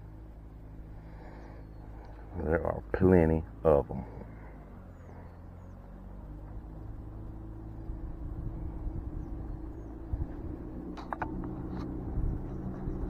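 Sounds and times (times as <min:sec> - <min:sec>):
boat engine drone: 0:00.0 - 0:13.0
higher engine tone: 0:00.0 - 0:13.0.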